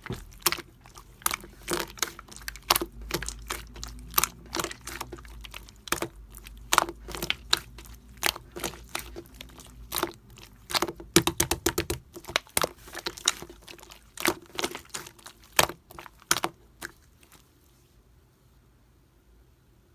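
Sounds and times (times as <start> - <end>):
slime squished by hand: 0.0 - 17.6.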